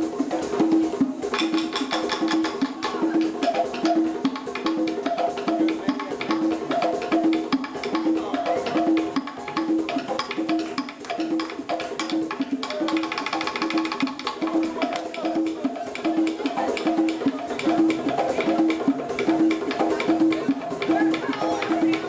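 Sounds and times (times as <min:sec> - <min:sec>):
hand drums playing fast rhythm: 0:00.0 - 0:22.0.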